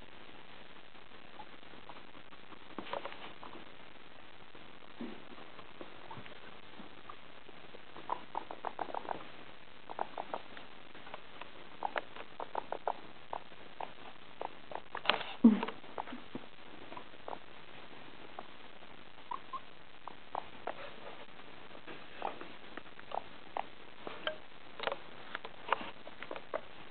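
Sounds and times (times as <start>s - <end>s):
guinea pigs clicking: 1.3s - 3.6s, 5.0s - 21.3s, 22.2s - 26.9s.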